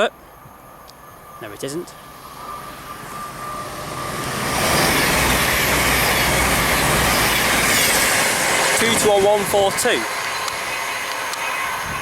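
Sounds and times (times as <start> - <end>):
train passing at speed: 0.0 - 12.0
rush of wheels and air: 2.1 - 12.0.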